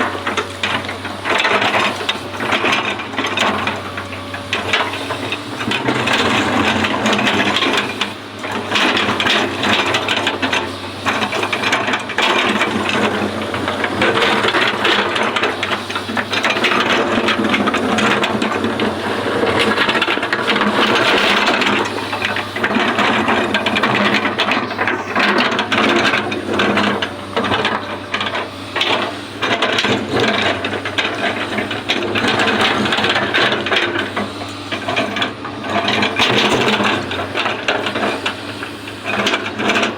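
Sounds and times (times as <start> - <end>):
excavator engine hum: 0.0 - 39.9
rattling and scraping: 0.0 - 39.9.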